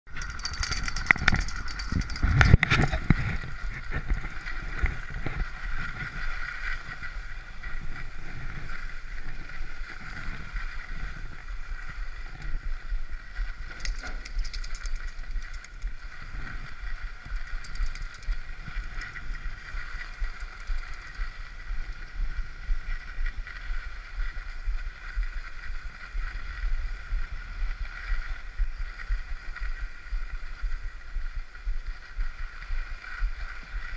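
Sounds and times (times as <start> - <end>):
wind rumble on microphone: 0.1 - 33.9.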